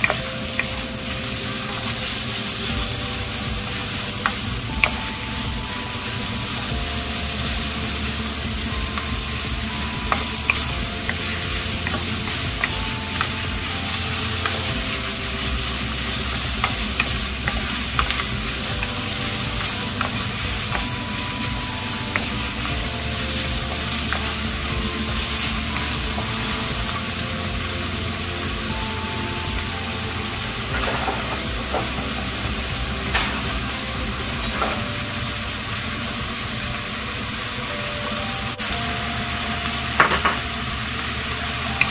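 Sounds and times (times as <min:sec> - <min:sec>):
food sizzling in a hot pan: 0:00.0 - 0:41.9.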